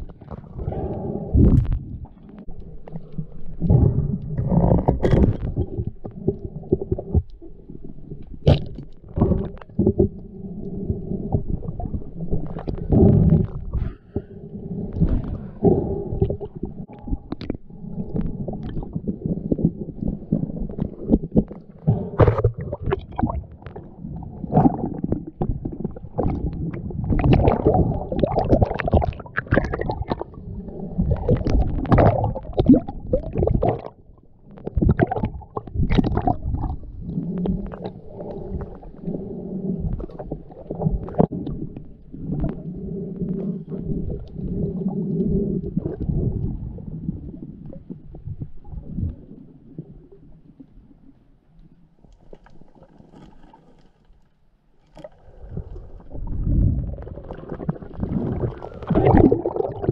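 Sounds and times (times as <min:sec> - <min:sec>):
muffled underwater rumble and gurgling: 0:00.0 - 0:59.9.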